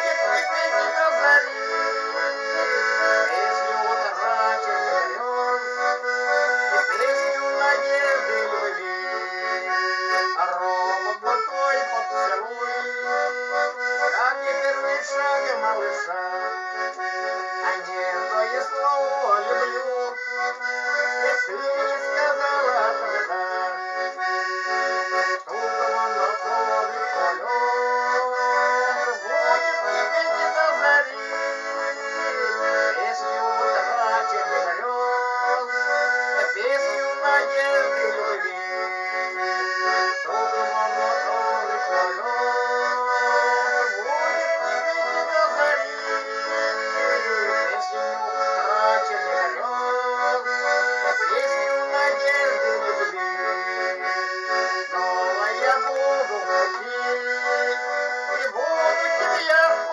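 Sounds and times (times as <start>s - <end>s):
instrumental melody over chords: 0.0s - 59.9s.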